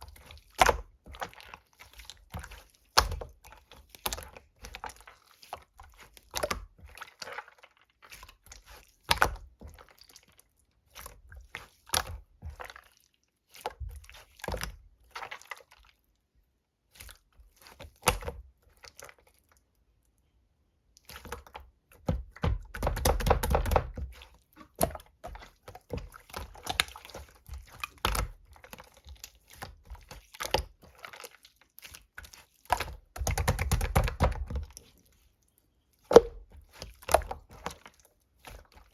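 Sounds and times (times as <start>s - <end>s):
slime squishing with sticky clicks: 0.0s - 16.2s, 16.8s - 20.1s, 20.8s - 38.9s.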